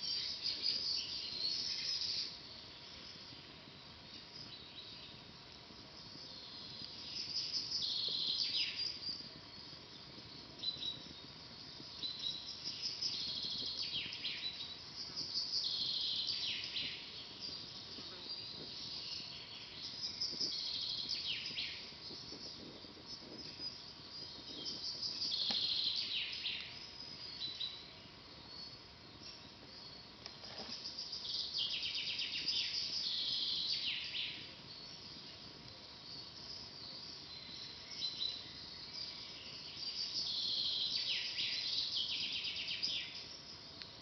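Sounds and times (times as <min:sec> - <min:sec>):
campfire crackling: 0:00.0 - 0:33.2, 0:34.0 - 0:39.7
songbird singing: 0:00.0 - 0:44.0.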